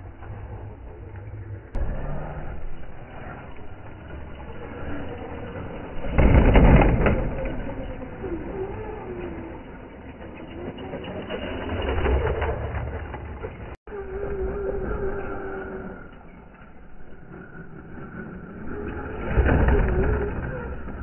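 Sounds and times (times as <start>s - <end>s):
rc truck driving: 0.0s - 21.0s.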